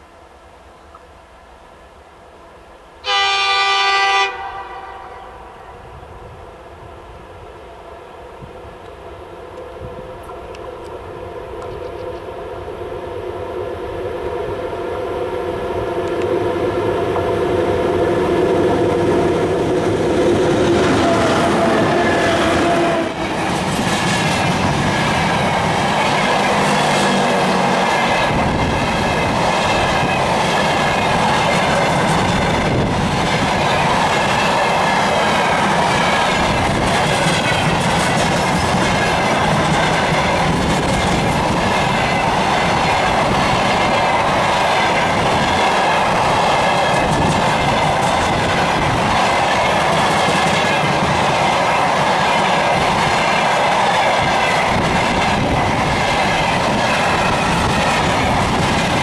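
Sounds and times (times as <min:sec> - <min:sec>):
freight train rumbling past: 0:01.9 - 0:59.0.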